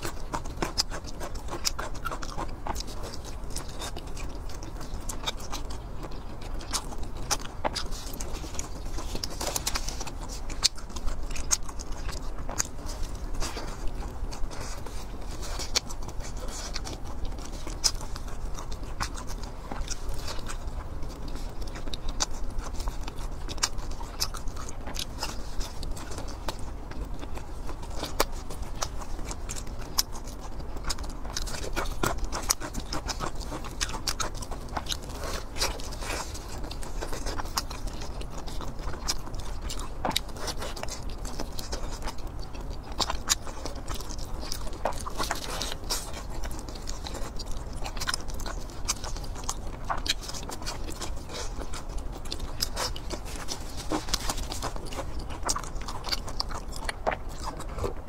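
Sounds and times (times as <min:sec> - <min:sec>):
person biting and chewing food: 0:00.0 - 0:58.0.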